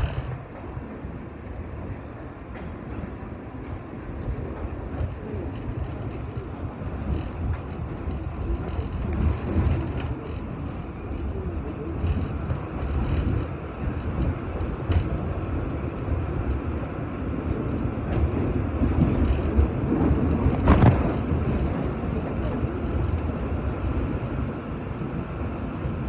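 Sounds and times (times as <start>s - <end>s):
subway wheels rumbling on rail: 0.0s - 26.0s.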